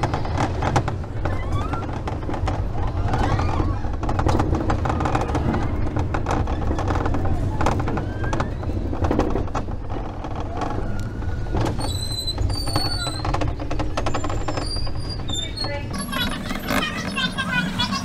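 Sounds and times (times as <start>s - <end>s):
irregular clattering: 0.0s - 17.3s
ride rumble: 0.0s - 18.0s.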